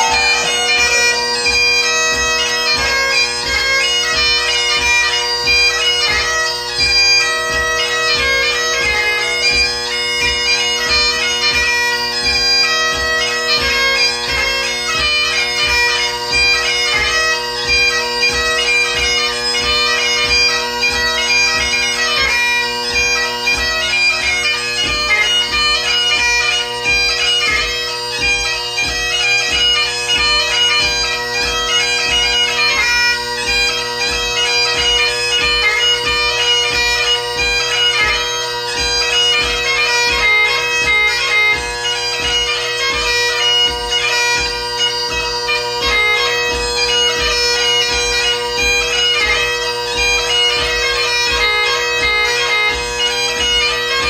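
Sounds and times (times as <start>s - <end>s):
bagpipe playing a tune: 0.0s - 54.0s.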